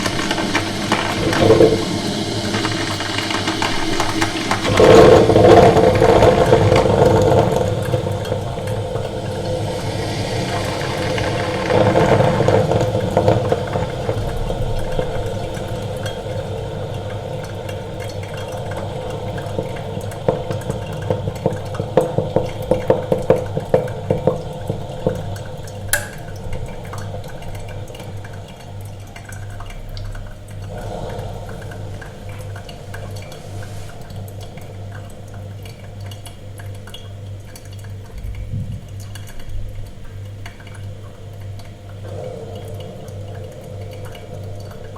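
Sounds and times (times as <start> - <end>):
low pulsing hum: 0.0 - 21.8, 24.8 - 36.7, 38.0 - 44.9
coffee dripping: 0.0 - 44.9.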